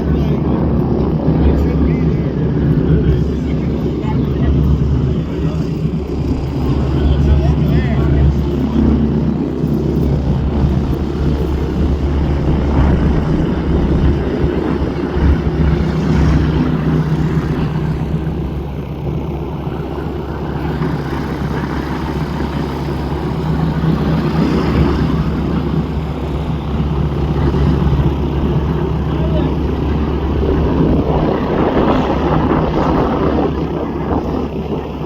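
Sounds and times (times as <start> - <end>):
propeller aircraft flying past: 0.0 - 35.0.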